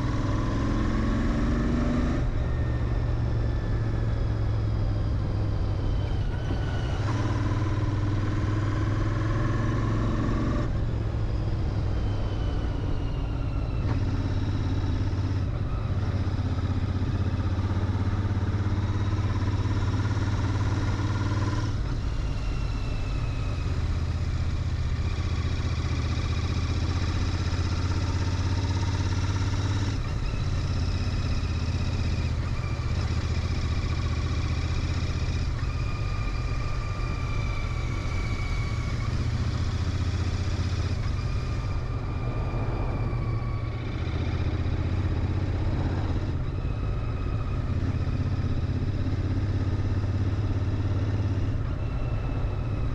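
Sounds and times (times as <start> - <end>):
motorcycle engine riding: 0.0 - 52.9.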